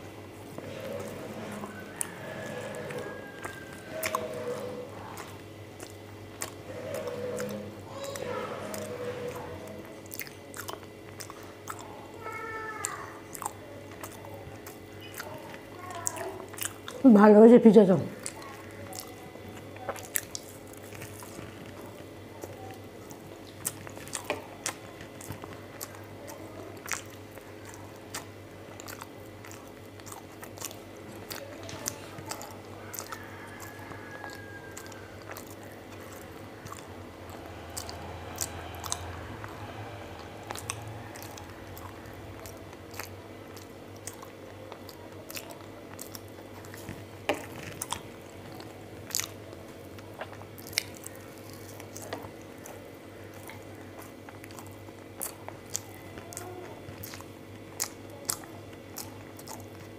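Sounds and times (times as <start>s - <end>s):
person chewing: 0.0s - 17.0s, 18.1s - 59.9s
low steady hum: 0.0s - 59.9s.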